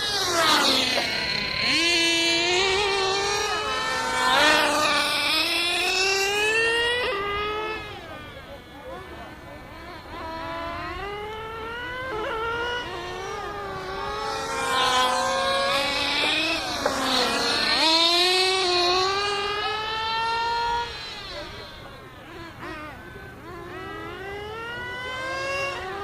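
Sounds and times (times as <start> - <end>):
rc car engines revving: 0.0 - 26.0.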